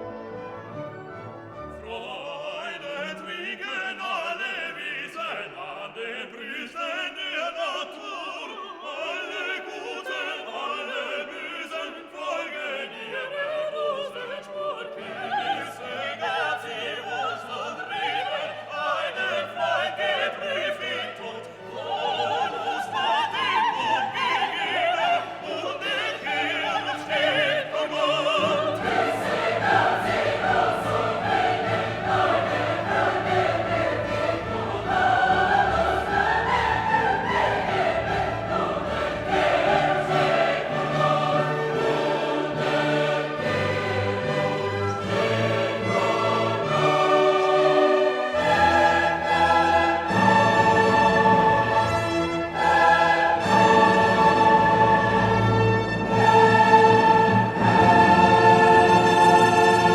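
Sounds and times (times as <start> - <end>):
operatic singing with orchestra: 0.0 - 59.9.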